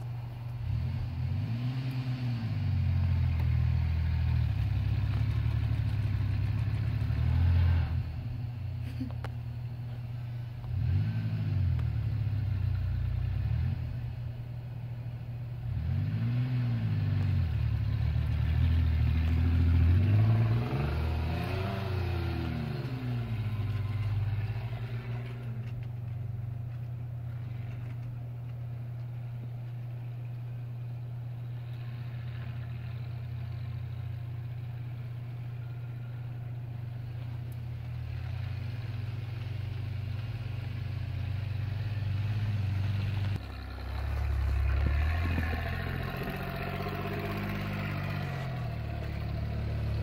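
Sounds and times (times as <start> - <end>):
truck engine revving: 0.0 - 9.1, 10.6 - 14.3, 15.6 - 28.1, 31.4 - 50.0.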